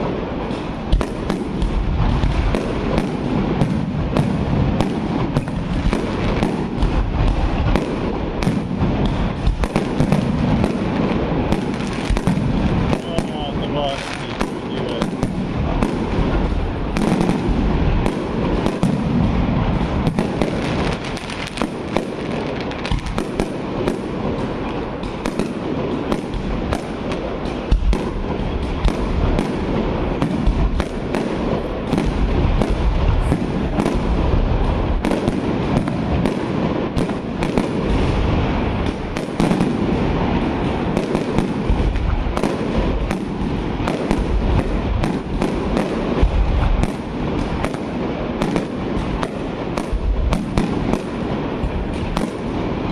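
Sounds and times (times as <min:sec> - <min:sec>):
fireworks bangs and crackles: 0:00.0 - 0:52.9
hiss of burning fireworks: 0:00.0 - 0:52.9.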